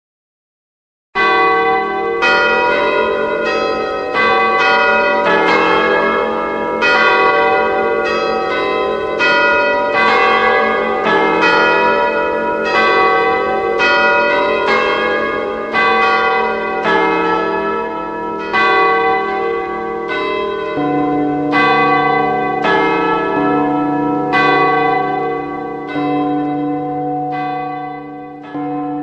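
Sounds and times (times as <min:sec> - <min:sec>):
deep church bell ringing: 0:01.2 - 0:29.0.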